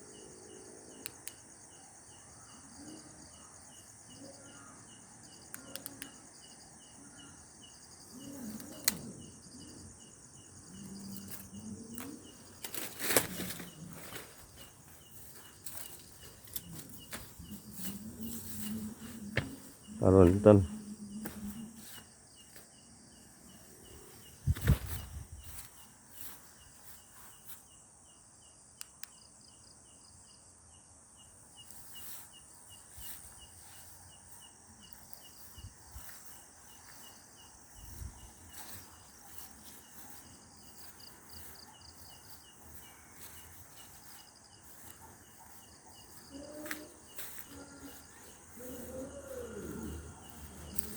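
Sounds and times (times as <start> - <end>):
crickets chirping: 0.0 - 50.9
high-pitched insect drone: 2.3 - 27.7, 31.6 - 50.9.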